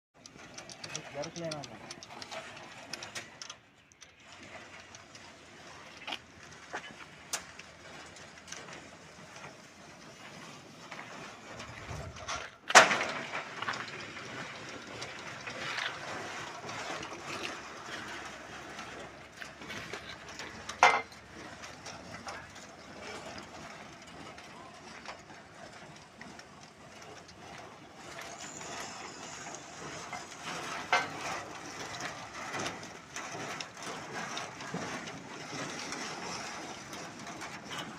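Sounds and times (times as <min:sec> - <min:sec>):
rolling shutter clicking and rattling: 0:00.2 - 0:37.9.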